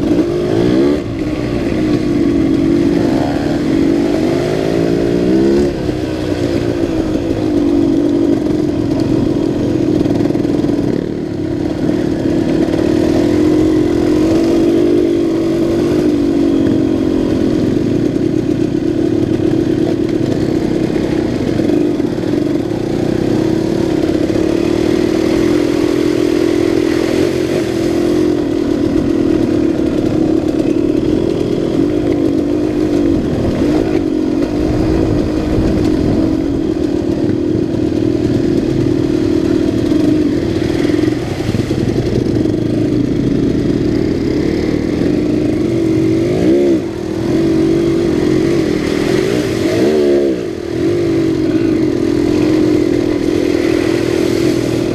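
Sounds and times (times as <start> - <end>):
dirt bike engine running: 0.0 - 54.9.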